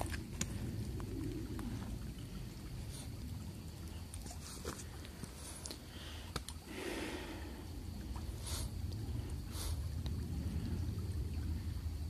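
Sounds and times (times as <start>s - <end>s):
creek trickling over stones: 0.0s - 12.0s.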